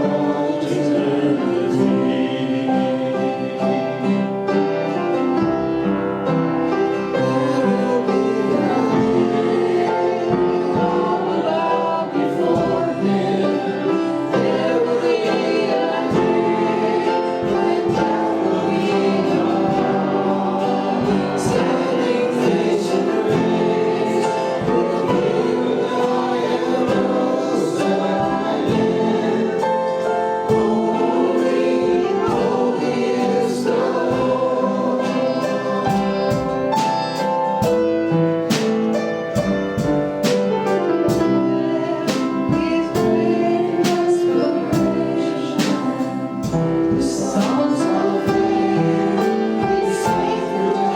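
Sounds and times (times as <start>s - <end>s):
band playing: 0.0s - 50.9s
group singing gospel song: 0.0s - 50.9s.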